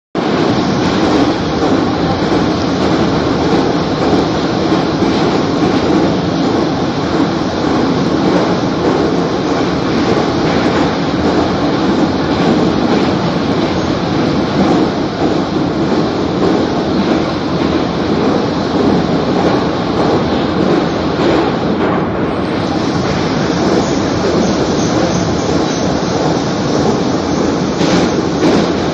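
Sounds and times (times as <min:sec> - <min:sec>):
metro train rumbling in tunnel: 0:00.2 - 0:28.9.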